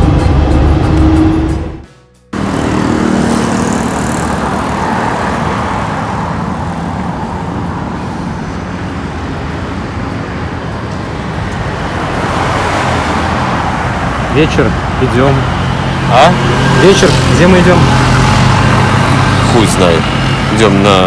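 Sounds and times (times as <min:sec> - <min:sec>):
road traffic passing cars: 0:00.0 - 0:21.0.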